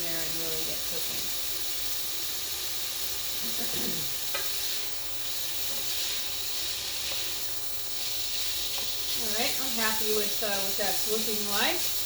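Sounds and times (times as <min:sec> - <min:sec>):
noodles sizzling in a frying pan: 0:00.0 - 0:12.0.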